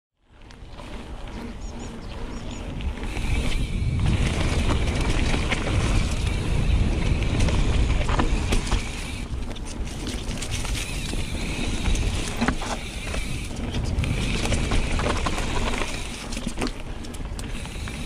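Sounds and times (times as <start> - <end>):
bike tyres rolling on gravel: 0.2 - 18.0
bike knocking and rattling: 0.3 - 18.0
wind buffeting microphone: 0.5 - 18.0.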